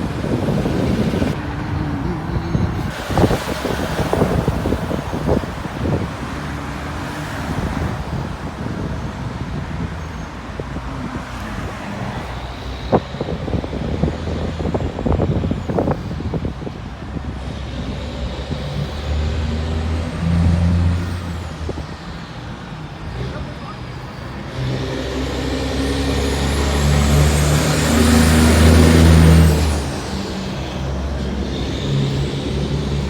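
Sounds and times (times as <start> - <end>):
heavy engine running nearby: 0.0 - 10.6, 11.4 - 33.0
highway traffic rumble: 0.0 - 33.0.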